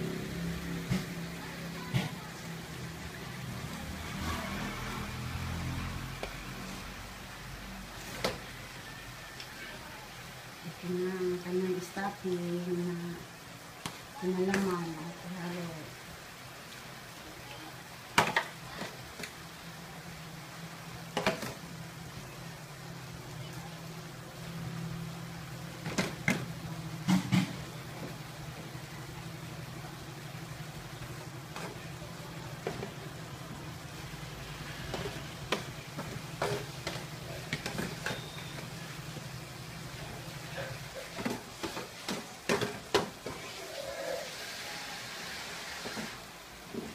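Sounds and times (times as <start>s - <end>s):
light sizzle: 0.0s - 46.9s.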